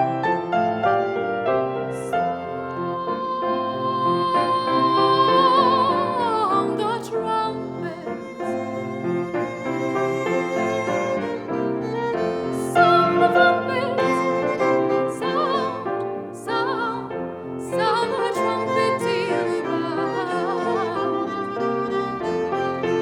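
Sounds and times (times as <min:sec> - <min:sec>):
bowed strings: 0:00.0 - 0:23.0
keyboard: 0:00.0 - 0:23.0
classical singing with vibrato: 0:01.5 - 0:23.0.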